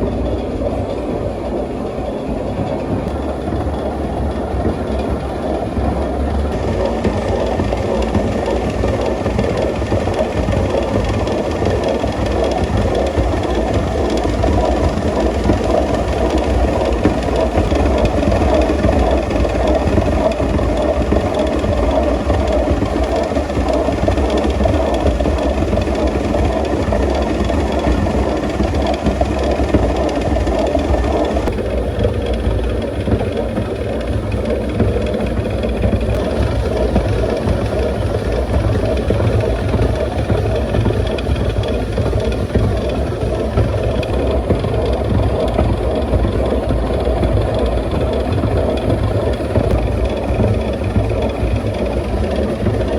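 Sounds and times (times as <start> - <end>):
flour mill machinery grinding: 0.0 - 52.9.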